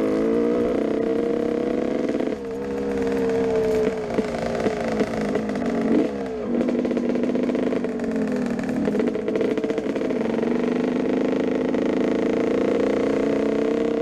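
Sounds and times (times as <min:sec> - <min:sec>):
two-stroke motorcycle engine revving: 0:00.0 - 0:14.0.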